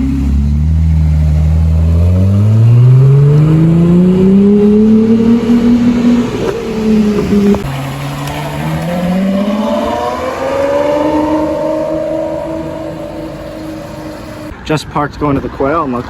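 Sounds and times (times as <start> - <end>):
car engine accelerating hard: 0.0 - 14.5.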